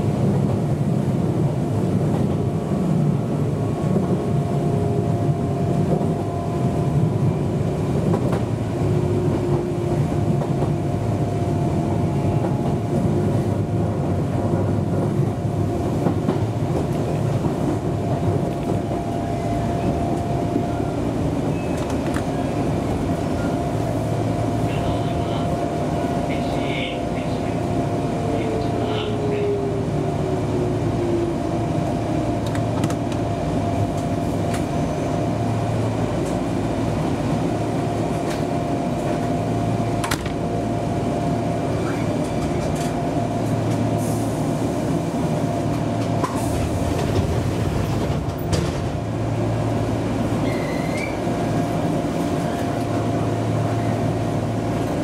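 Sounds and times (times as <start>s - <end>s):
train motor hum: 0.0s - 55.0s
train wheels rolling on rail: 0.0s - 55.0s.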